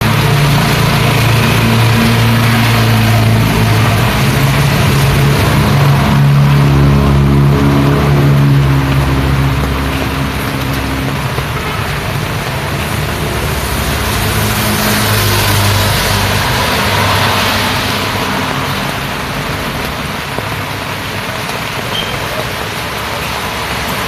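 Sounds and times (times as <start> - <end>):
rain: 0.0 - 24.0
traffic noise: 0.0 - 24.0
vehicle engine passing: 0.0 - 24.0
tyre hiss on wet road: 0.1 - 24.0.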